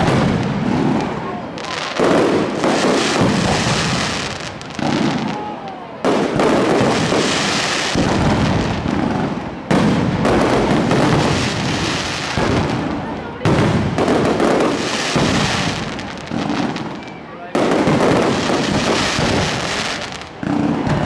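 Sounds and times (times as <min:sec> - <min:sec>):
continuous rush of noise: 0:00.0 - 0:21.0
fireworks bursting: 0:00.0 - 0:21.0.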